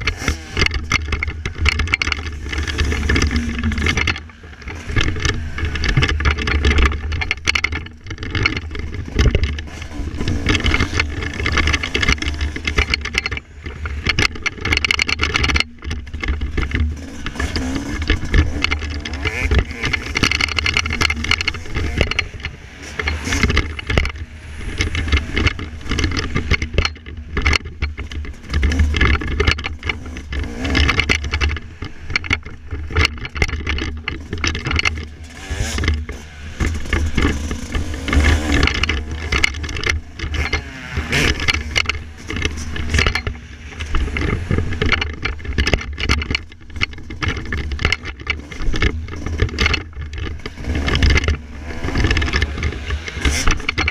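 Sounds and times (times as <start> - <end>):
motocross engine revving: 0.0 - 53.9.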